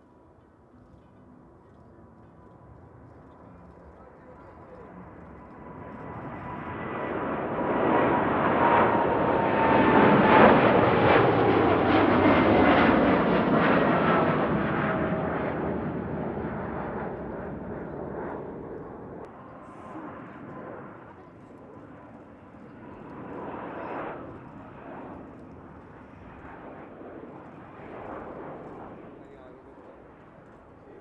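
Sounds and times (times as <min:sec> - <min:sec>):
jet airliner passing by: 0:00.9 - 0:31.0.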